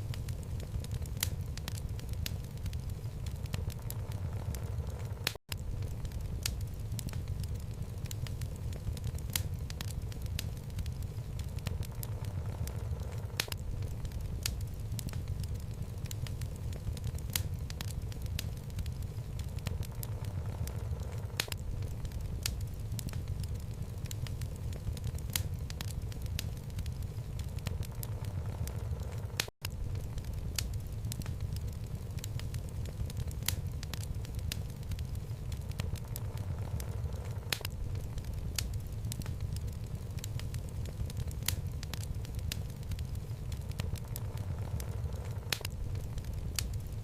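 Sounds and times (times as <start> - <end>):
burning logs crackling: 0.0 - 47.0
low rumble of flames: 0.0 - 47.0.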